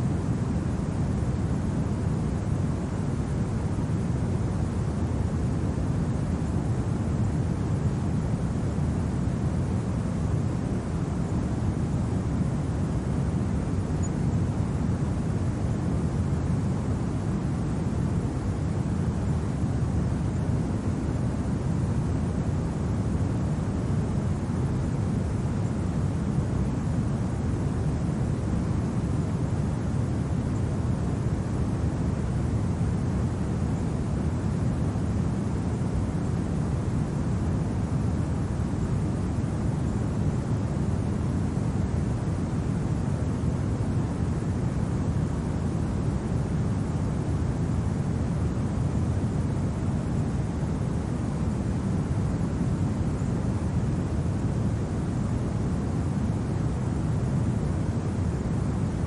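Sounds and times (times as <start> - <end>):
low-pitched wind noise: 0.0 - 59.0.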